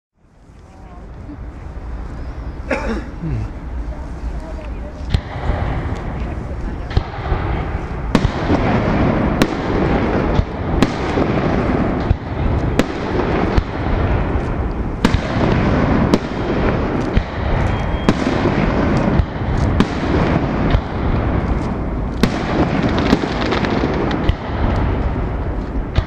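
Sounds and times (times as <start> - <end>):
continuous fireworks rumble: 0.2 - 26.0
fireworks bursting with bangs: 4.9 - 26.0.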